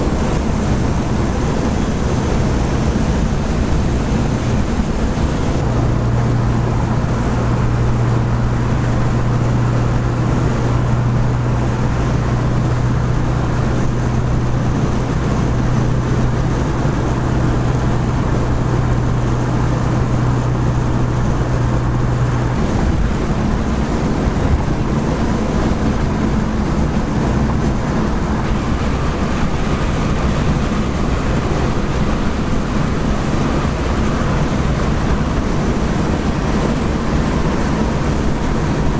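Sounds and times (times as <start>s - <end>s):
car engine drone: 0.0s - 38.9s
high weak hum: 0.0s - 38.9s
road and wind noise: 0.0s - 38.9s.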